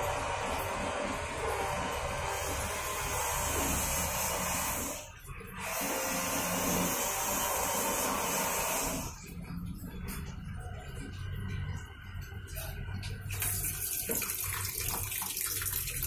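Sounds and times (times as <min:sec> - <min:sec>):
water pouring into washing machine: 0:00.0 - 0:16.0.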